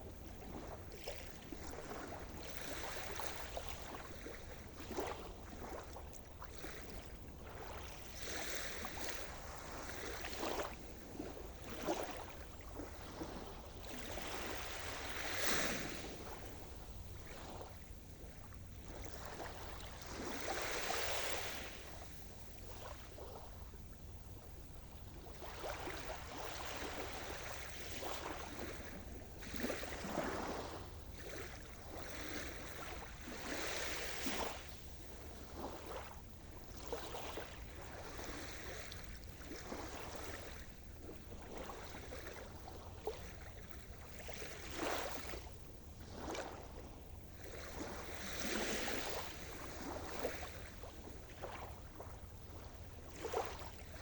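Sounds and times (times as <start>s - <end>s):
waves breaking and washing in: 0.0s - 54.0s.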